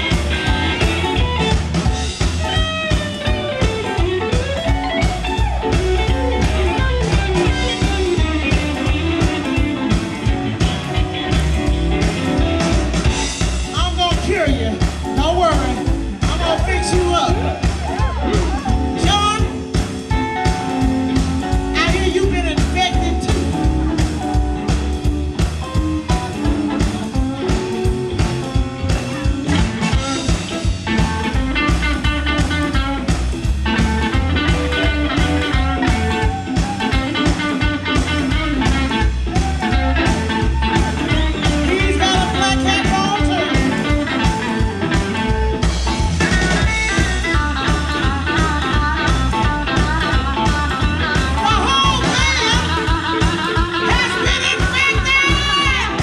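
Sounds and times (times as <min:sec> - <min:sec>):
bass: 0:00.0 - 0:56.0
blues band playing: 0:00.0 - 0:56.0
electric guitar solo with bent notes: 0:00.0 - 0:56.0
steady drum beat: 0:00.0 - 0:56.0.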